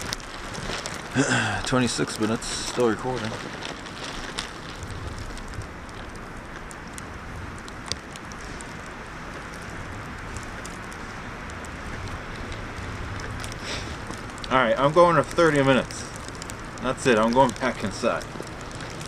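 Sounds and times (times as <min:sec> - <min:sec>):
snow and sleet ticking: 0:00.0 - 0:19.0.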